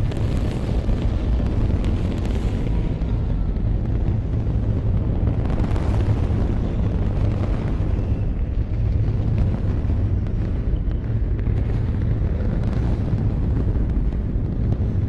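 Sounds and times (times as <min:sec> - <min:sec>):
rocket engines deep rumble: 0:00.0 - 0:15.0.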